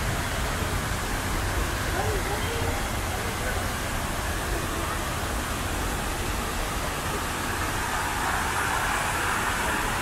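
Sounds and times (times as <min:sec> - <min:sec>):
rushing city noise: 0:00.0 - 0:10.0.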